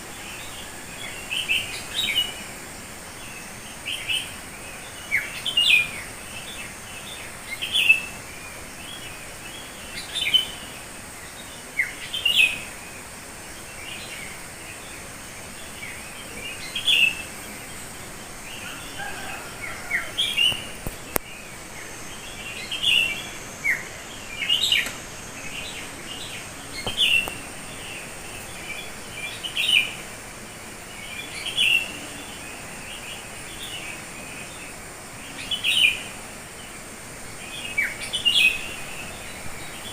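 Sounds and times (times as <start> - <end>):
background hiss: 0.0 - 39.9
birds chirping: 0.0 - 39.9.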